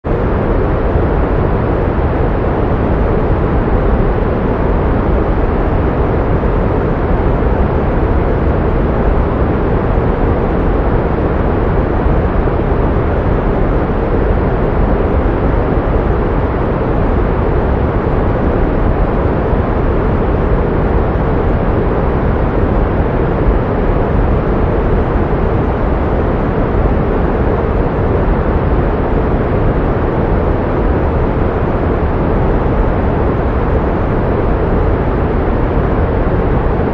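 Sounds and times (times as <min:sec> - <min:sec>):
pink noise hiss: 0:00.1 - 0:36.9.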